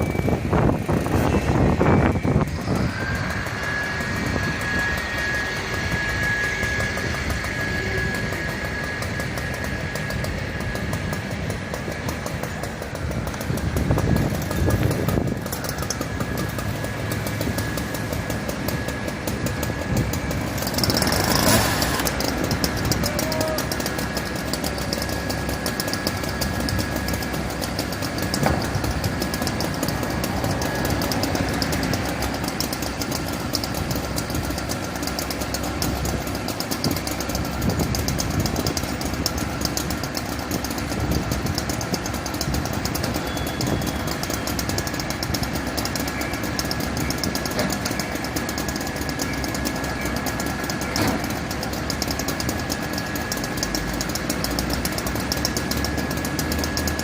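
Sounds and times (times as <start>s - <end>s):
thin high tone: 0.0s - 37.6s, 41.8s - 51.8s
fire truck engine idling: 0.0s - 57.0s.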